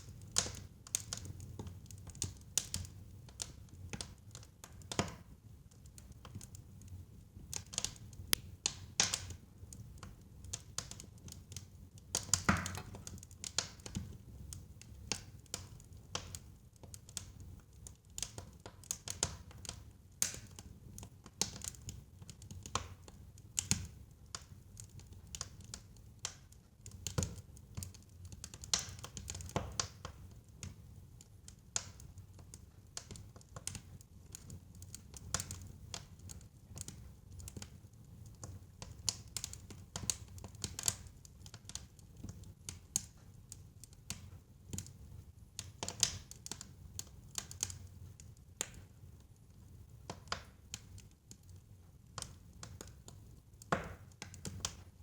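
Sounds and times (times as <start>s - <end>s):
low rumble of burning: 0.0s - 55.0s
wood fire crackling: 0.0s - 55.0s.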